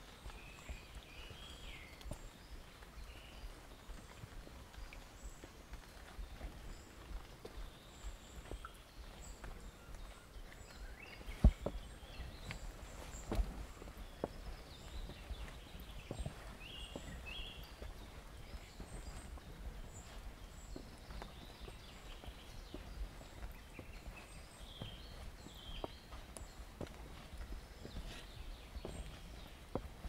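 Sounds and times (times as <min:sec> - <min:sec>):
birds chirping: 0:00.0 - 0:30.0
footsteps in a forest: 0:00.0 - 0:30.0.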